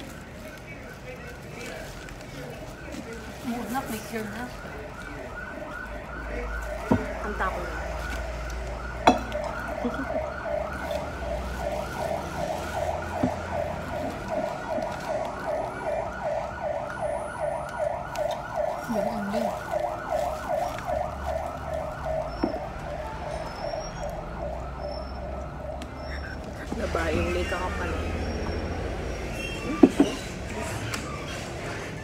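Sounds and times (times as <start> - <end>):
siren yelping: 0.0 - 32.0.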